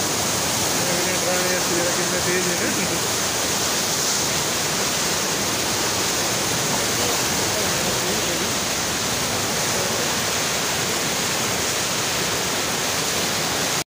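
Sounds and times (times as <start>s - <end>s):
river water rushing: 0.0s - 13.8s.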